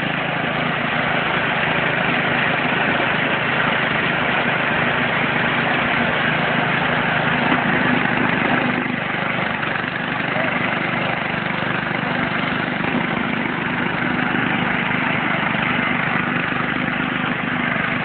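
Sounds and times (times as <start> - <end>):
floor grinder running: 0.0 - 18.0.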